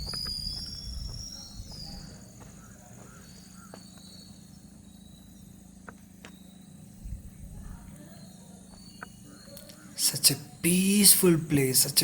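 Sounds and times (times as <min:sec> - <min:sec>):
bird chirps: 0:00.0 - 0:07.0, 0:08.0 - 0:10.7
insects trilling: 0:00.0 - 0:12.0.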